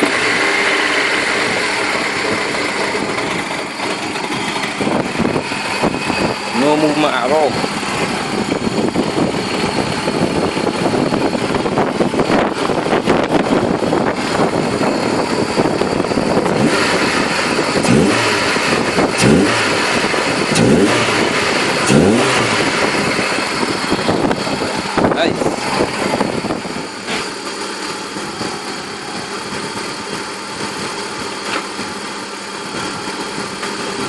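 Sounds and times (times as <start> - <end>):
petrol engine running and revving: 0.0 - 34.0.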